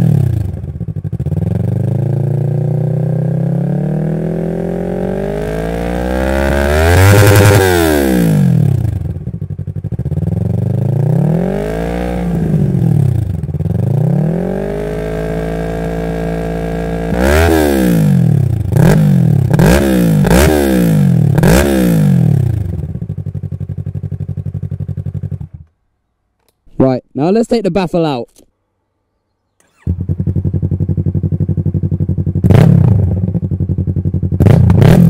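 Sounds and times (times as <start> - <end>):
motorcycle engine revving: 0.0 - 25.7, 29.6 - 35.0.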